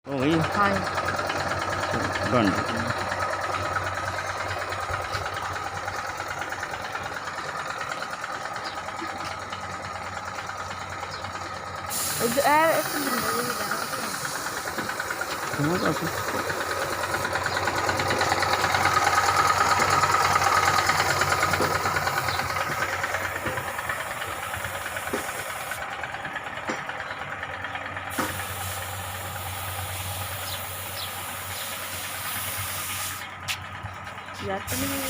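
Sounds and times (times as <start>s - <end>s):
engine running with hiss: 0.1s - 35.0s.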